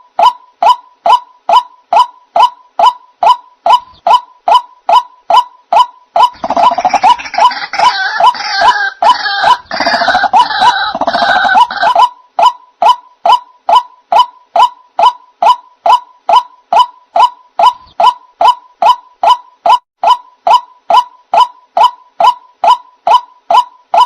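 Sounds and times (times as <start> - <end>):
waterhen calls: 0.2 - 24.0.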